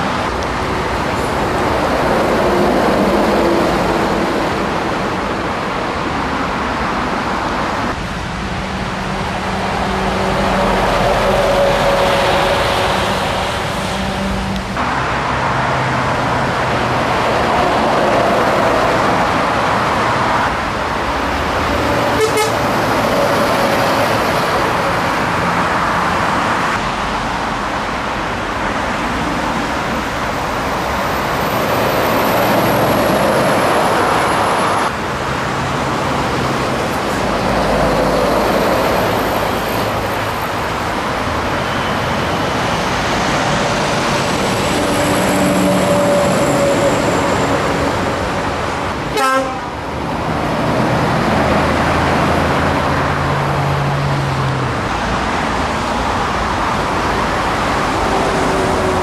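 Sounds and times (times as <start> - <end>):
road noise: 0.0 - 59.0
truck engine: 0.0 - 59.0.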